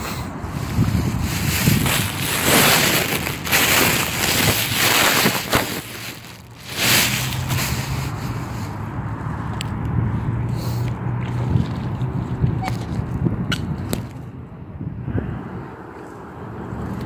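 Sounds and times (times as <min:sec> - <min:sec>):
wind gusting on microphone: 0:00.0 - 0:17.0.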